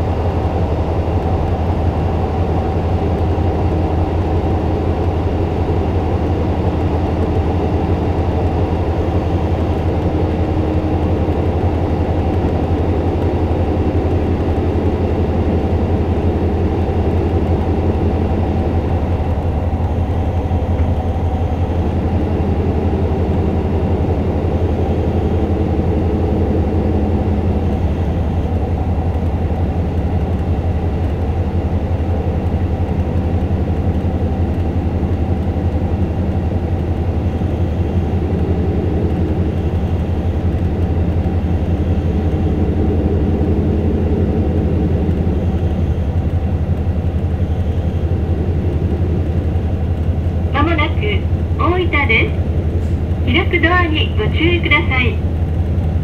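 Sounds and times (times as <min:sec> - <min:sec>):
low diesel engine drone: 0:00.0 - 0:56.0
wheels rumbling on rails: 0:00.0 - 0:56.0.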